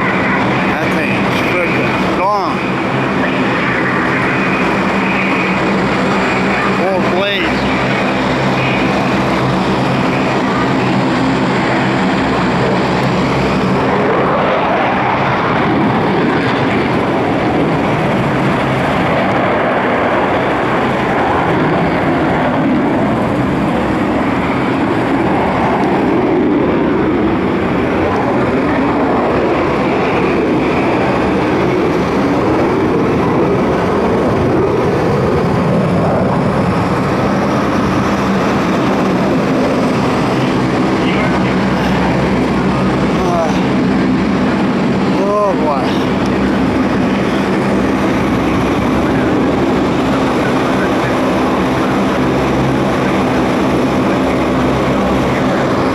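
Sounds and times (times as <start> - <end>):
propeller airplane engine droning: 0.0 - 55.9.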